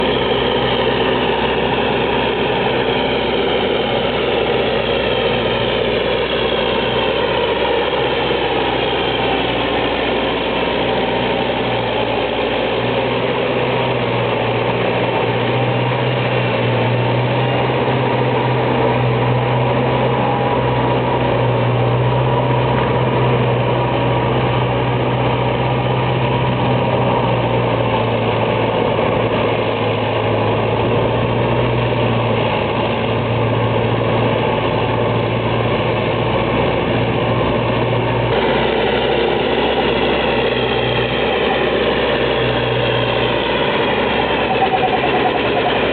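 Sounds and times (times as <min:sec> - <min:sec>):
deep drone: 0:00.0 - 0:45.9
tractor diesel engine running: 0:00.0 - 0:45.9.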